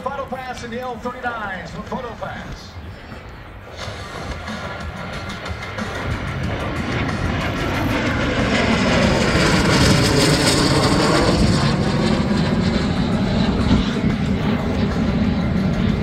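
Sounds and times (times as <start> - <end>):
jet engines passing overhead: 0.0 - 16.0.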